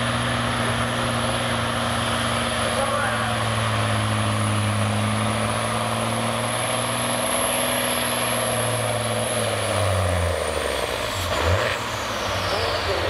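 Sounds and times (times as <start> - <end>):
diesel truck engine under load: 0.0 - 13.0
turbocharger whine: 0.0 - 13.0.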